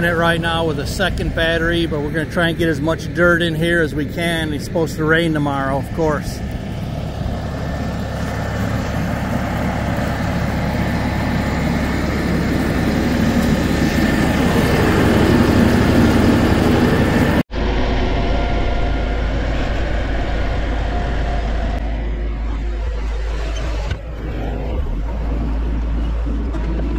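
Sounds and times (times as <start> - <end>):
heavy equipment engine running: 0.0 - 26.9.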